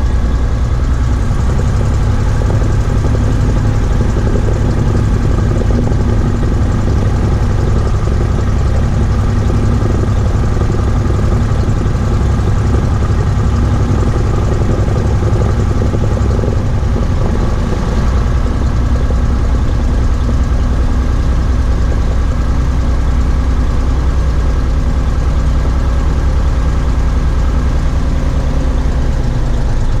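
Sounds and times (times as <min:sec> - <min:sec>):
aircraft piston engine droning: 0:00.0 - 0:30.0.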